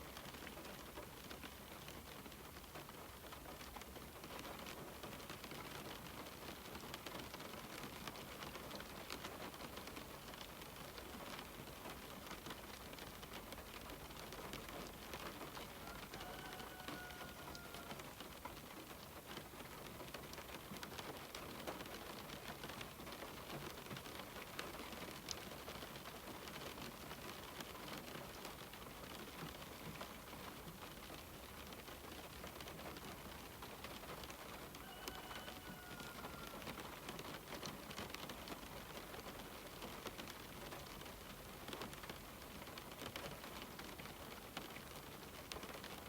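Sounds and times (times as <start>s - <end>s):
raindrops ticking on glass: 0.0s - 46.0s.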